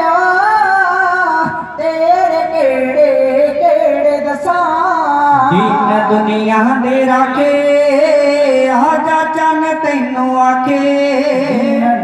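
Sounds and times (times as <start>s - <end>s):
woman singing over loudspeaker: 0.0s - 9.0s, 10.7s - 12.0s.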